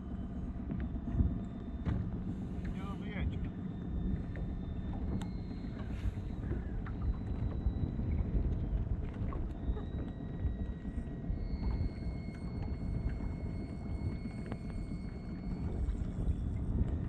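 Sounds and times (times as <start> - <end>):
faint thin high whine: 0.0 - 17.0
wind buffeting microphone: 0.8 - 17.0.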